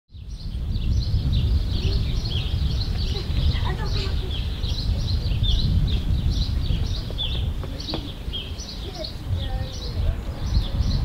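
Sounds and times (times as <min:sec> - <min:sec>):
small birds chirping: 0:00.1 - 0:11.0
steady low rumble: 0:00.2 - 0:11.0.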